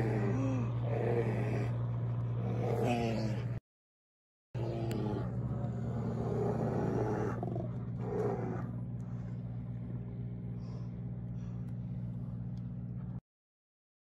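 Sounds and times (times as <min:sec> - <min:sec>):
low mechanical hum: 0:00.0 - 0:03.6, 0:04.6 - 0:13.2.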